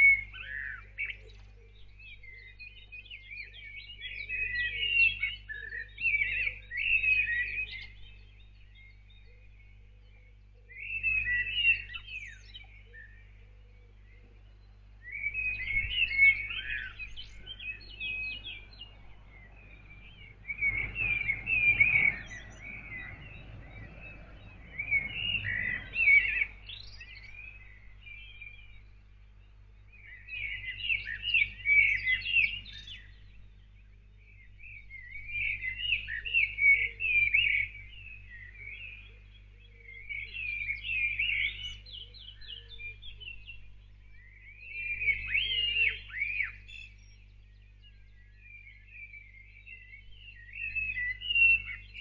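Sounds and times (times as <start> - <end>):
songbird warbling: 0.0 - 52.0.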